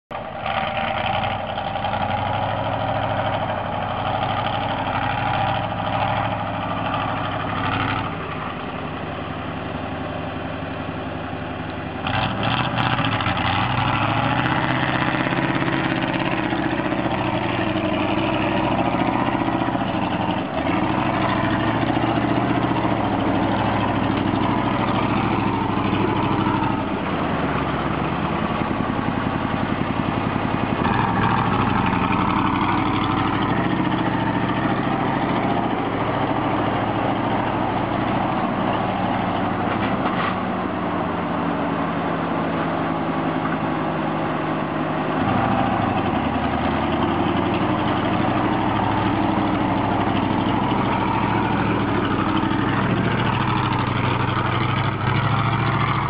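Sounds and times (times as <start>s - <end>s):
truck engine running: 0.1s - 56.0s.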